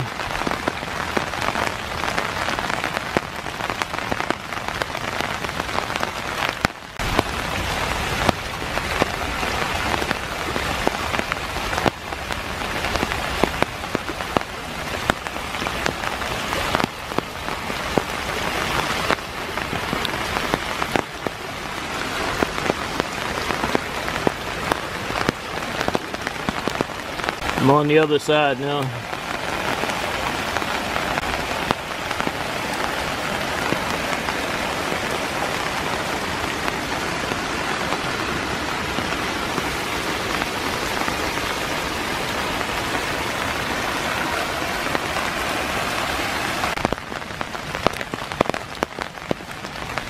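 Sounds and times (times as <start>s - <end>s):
rain falling: 0.0s - 50.0s
stream rushing over leaves: 0.0s - 50.0s.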